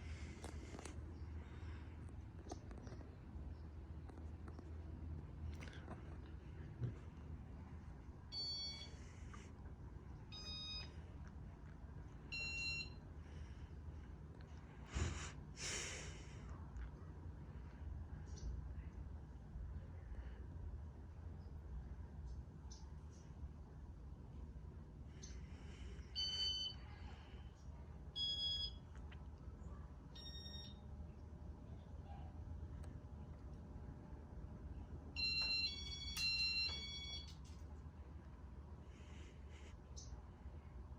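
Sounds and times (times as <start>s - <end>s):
fan motor hum: 0.0s - 40.9s.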